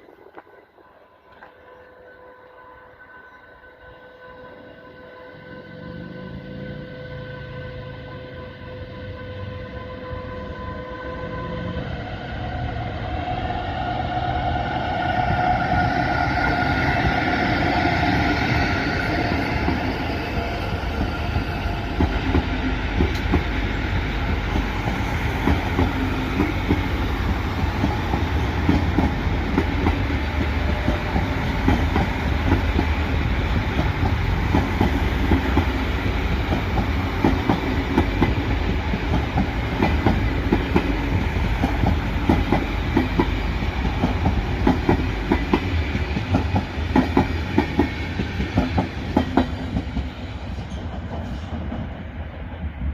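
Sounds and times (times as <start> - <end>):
train rumbling on tracks: 0.0 - 52.9.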